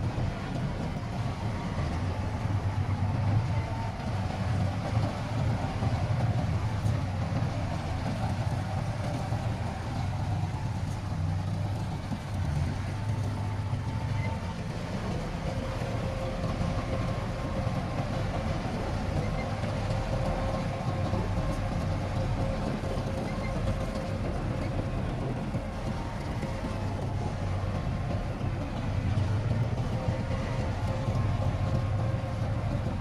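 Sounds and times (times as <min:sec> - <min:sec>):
diesel machinery engine rumble: 0:00.0 - 0:33.0.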